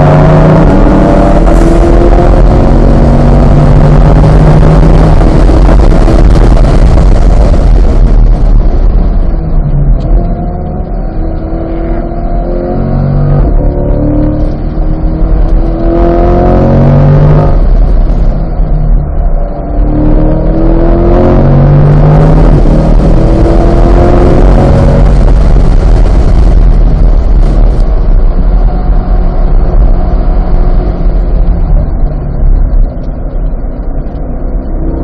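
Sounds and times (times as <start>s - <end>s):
car engine at full throttle: 0.0s - 35.0s.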